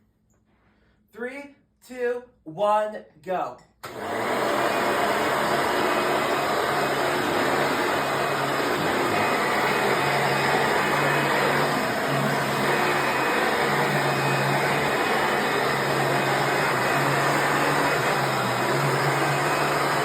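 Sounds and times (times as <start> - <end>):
vacuum cleaner running: 3.8 - 20.0.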